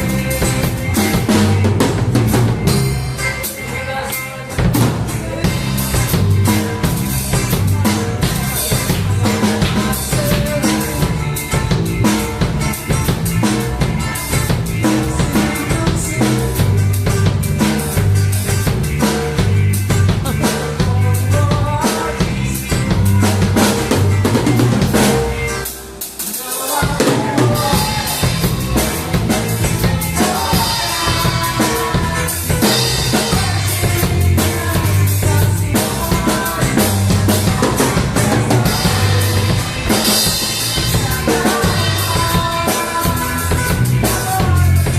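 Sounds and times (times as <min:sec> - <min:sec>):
drum kit beat: 0:00.0 - 0:44.9
worship band playing: 0:00.0 - 0:44.9.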